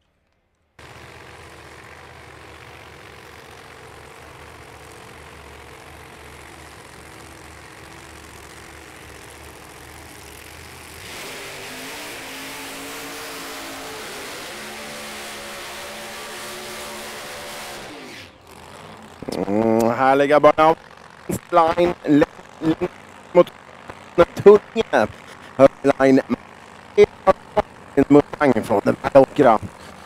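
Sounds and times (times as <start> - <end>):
drag racing car engines revving: 0.8 - 30.0.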